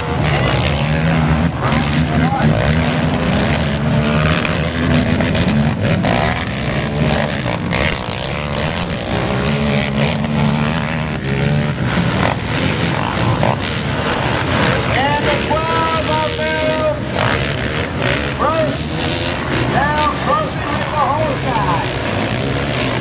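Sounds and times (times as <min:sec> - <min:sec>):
quad engines revving: 0:00.0 - 0:23.0.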